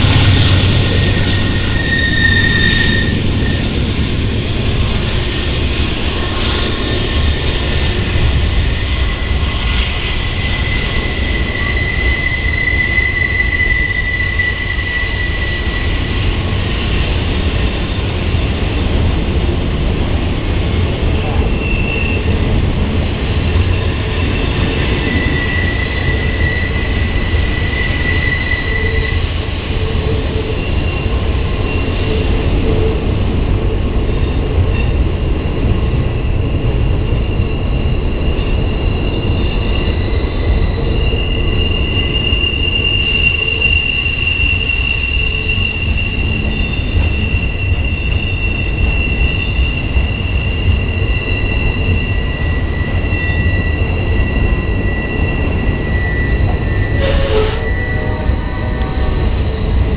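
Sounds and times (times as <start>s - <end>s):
freight train rumbling: 0.0s - 59.9s
train wheels squealing: 0.0s - 59.9s.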